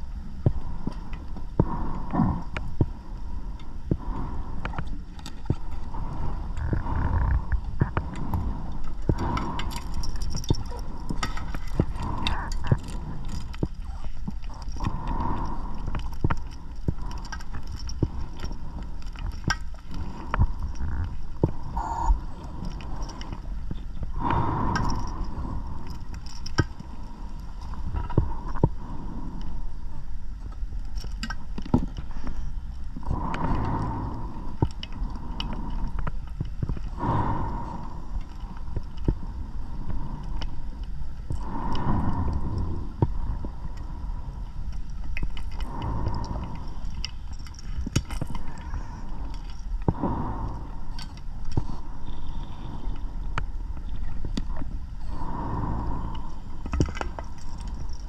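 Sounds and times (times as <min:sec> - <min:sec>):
scuba regulator breathing bubbles: 0:01.6 - 0:29.4, 0:33.0 - 0:44.7, 0:45.4 - 0:58.0.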